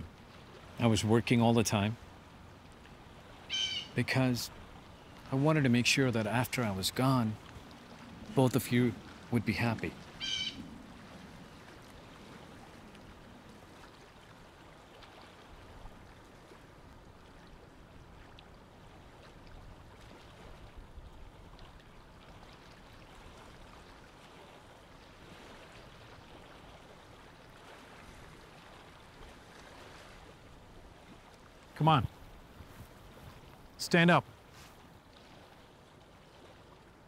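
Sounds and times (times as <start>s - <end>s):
gently moving water: 0.0s - 37.0s.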